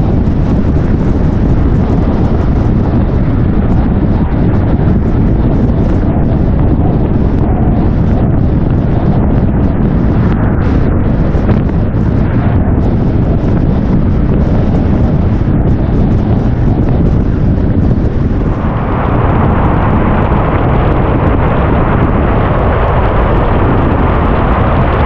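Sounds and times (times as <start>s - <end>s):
road and tyre rumble: 0.0s - 25.0s.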